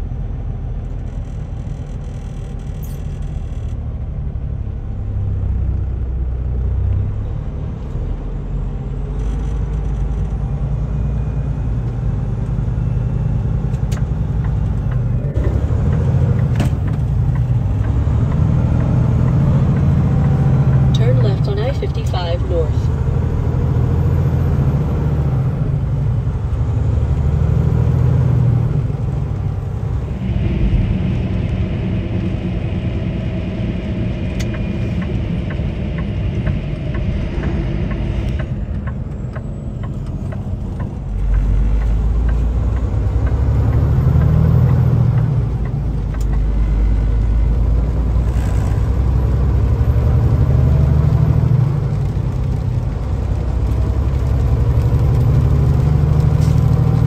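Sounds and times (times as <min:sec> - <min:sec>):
road noise on wet road: 0:00.0 - 0:57.0
truck engine rumble: 0:00.0 - 0:57.0.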